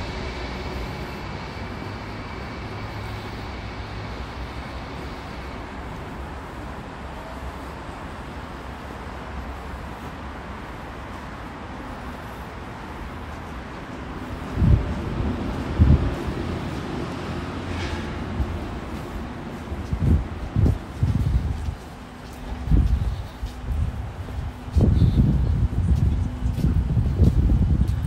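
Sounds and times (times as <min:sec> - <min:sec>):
distant traffic hum: 0:00.0 - 0:28.0.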